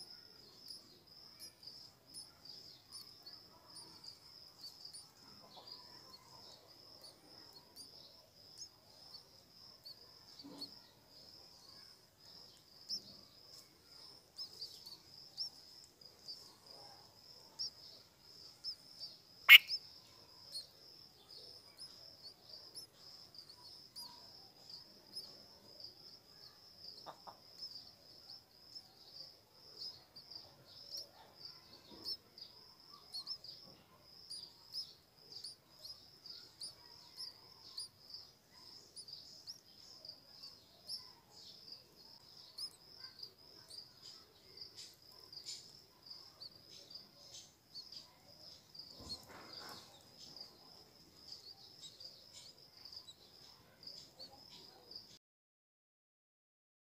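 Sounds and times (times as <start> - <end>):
high-pitched insect trill: 0.0 - 54.8.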